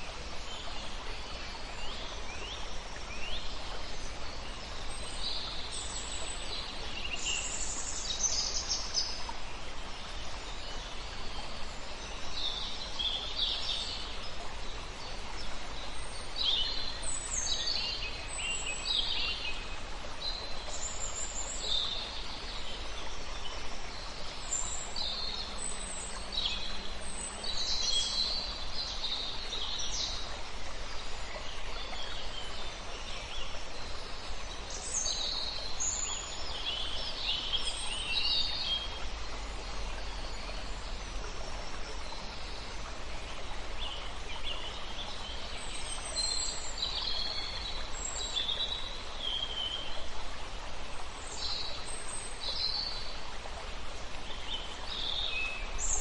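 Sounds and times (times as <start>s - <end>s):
flowing river water: 0.0s - 56.0s
songbirds singing and chirping: 0.0s - 56.0s.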